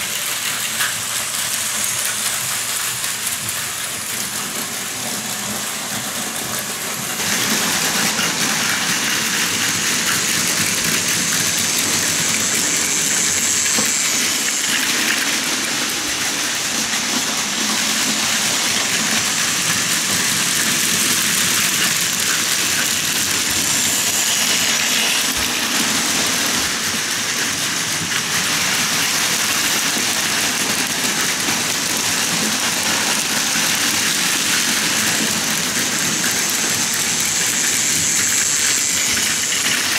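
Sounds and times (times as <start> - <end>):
toy trains running on track: 0.0 - 39.9.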